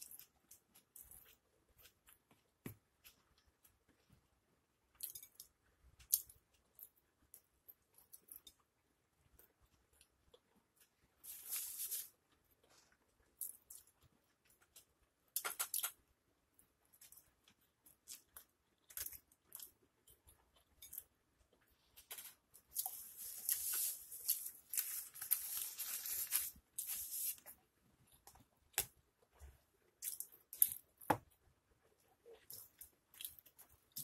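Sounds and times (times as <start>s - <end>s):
crackly eating noise: 0.0s - 34.0s.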